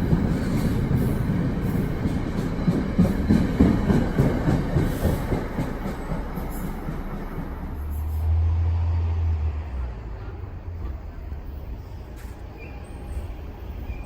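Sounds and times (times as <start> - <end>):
train rail noise: 0.0 - 14.0.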